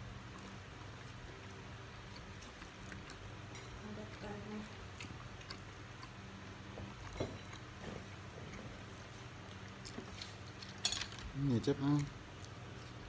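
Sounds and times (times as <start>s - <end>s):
faint low hum: 0.0s - 13.0s
wet chewing smacks: 0.1s - 10.8s.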